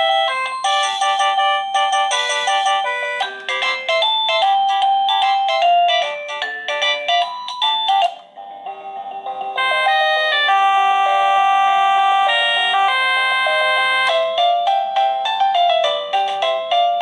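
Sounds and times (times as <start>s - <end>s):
electronic doorbell chime melody: 0.0s - 17.0s.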